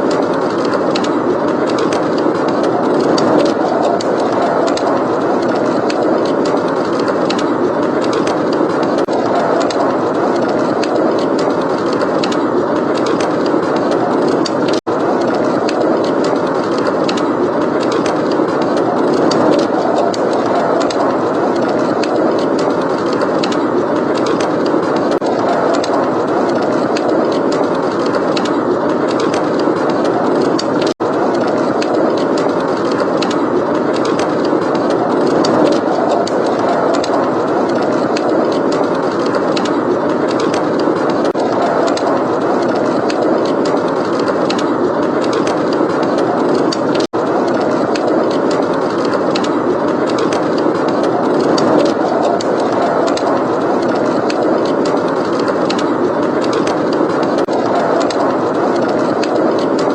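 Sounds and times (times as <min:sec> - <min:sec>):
fireplace fire crackling: 0:00.0 - 0:59.9
wind roaring: 0:00.0 - 0:59.9.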